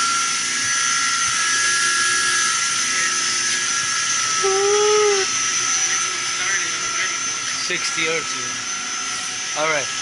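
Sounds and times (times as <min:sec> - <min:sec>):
chiller machinery whining: 0:00.0 - 0:10.0.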